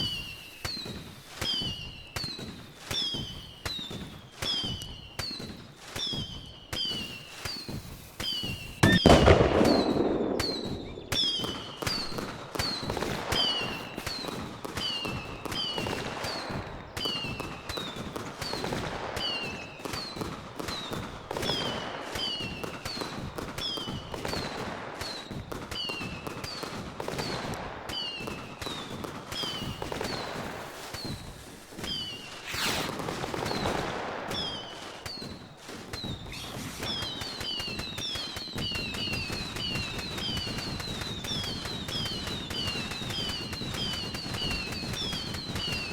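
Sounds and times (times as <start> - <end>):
pops and crackles: 0.0 - 24.4, 28.7 - 45.9
fireworks banging: 0.0 - 45.9.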